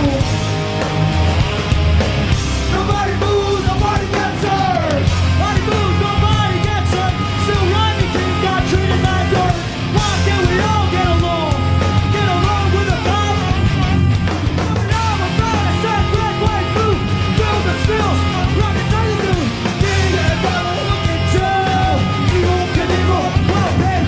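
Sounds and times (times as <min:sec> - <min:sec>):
rap-rock band playing: 0:00.0 - 0:24.0.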